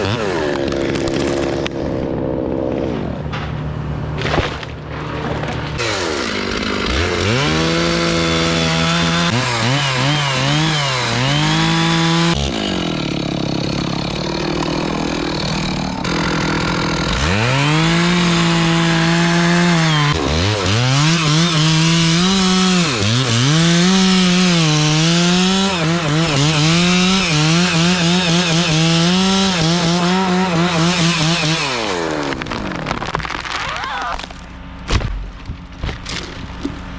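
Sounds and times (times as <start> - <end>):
chainsaw cutting wood: 0.0 - 3.2, 4.2 - 34.4.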